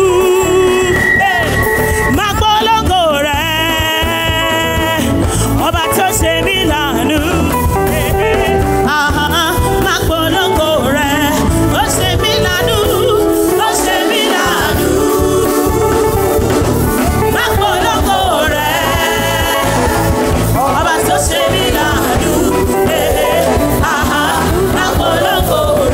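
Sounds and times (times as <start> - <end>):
band playing gospel music: 0.0 - 25.9
strong bass line: 0.0 - 25.9
voices singing with vibrato: 0.0 - 25.9.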